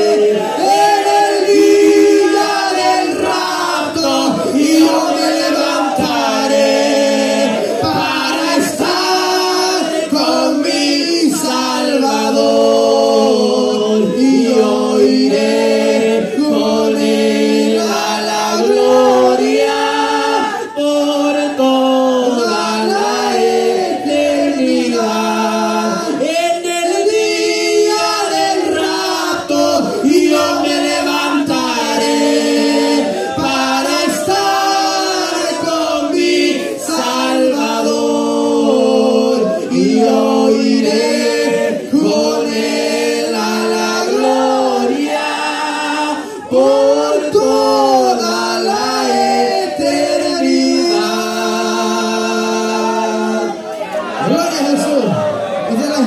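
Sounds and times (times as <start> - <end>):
men singing a hymn amplified: 0.0 - 56.0.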